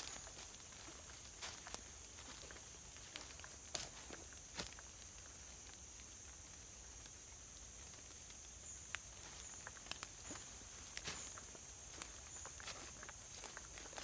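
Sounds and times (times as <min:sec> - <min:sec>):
insects droning: 0:00.0 - 0:14.0
soft ticks on forest floor: 0:00.0 - 0:14.0.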